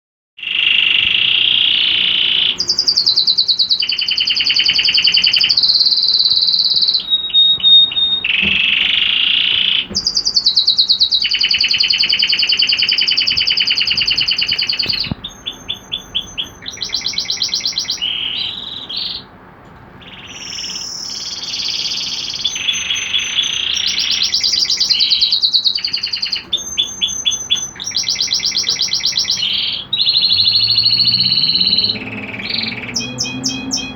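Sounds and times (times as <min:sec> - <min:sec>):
canary singing trills: 0:00.4 - 0:33.9.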